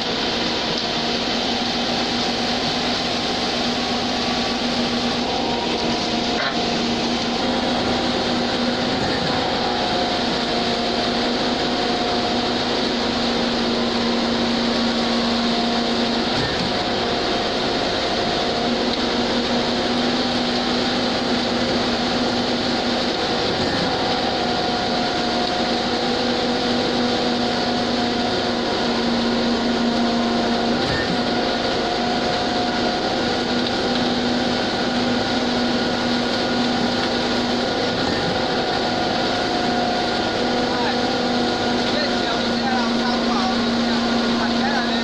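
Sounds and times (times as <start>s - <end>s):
concrete mixer truck engine drone: 0.0s - 45.0s
concrete pump running: 0.0s - 45.0s
wet concrete pouring down chute: 0.0s - 45.0s.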